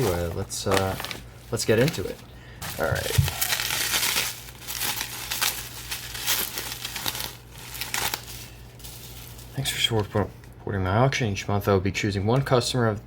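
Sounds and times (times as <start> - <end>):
packaging crinkling and tearing: 0.0 - 10.6.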